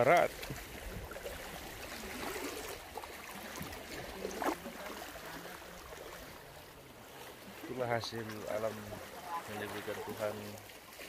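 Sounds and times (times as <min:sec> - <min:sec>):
shallow sea water washing: 0:00.0 - 0:11.0.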